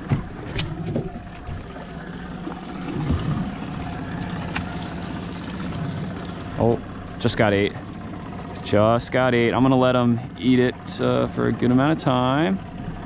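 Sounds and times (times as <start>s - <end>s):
boat engine idling: 0.0s - 13.0s
water sloshing against hull: 0.0s - 13.0s.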